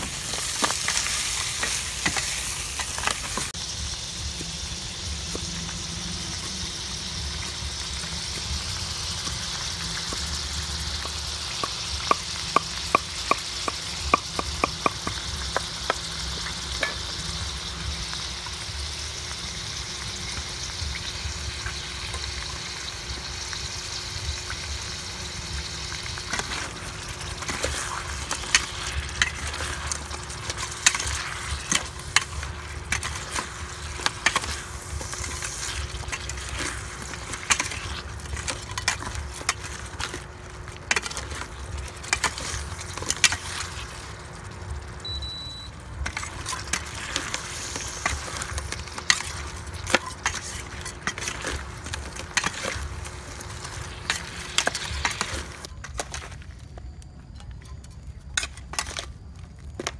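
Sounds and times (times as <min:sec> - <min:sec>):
crabs sizzling in a pot: 0:00.0 - 0:59.9.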